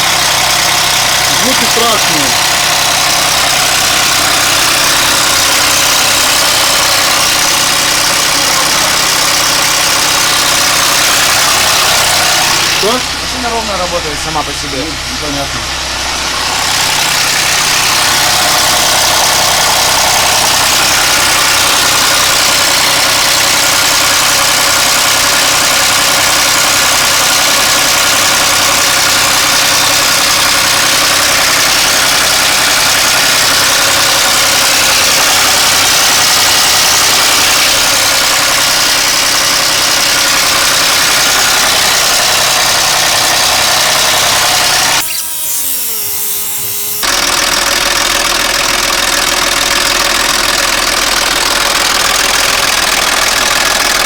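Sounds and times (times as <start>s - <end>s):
car engine idling with clatter: 0.0s - 54.0s.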